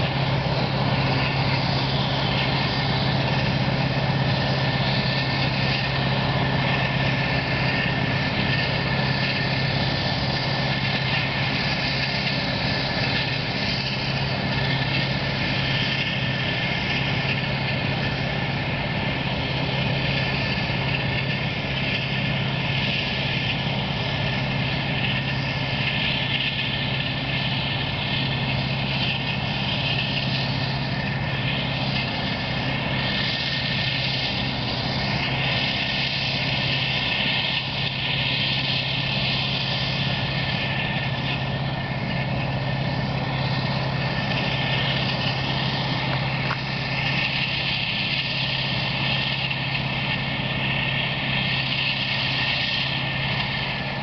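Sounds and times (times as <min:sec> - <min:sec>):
heavy engine drone: 0:00.0 - 0:54.0
high whine: 0:00.0 - 0:54.0.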